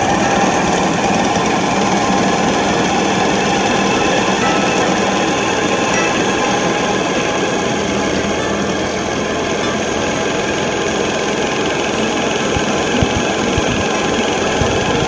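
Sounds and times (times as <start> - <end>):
model steam engine running: 0.0 - 15.0.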